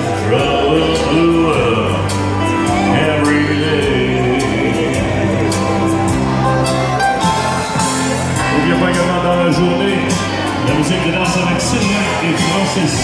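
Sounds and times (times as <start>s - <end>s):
country dance band playing: 0.0s - 13.0s
person singing: 0.0s - 13.0s
steady drum beat: 0.1s - 13.0s.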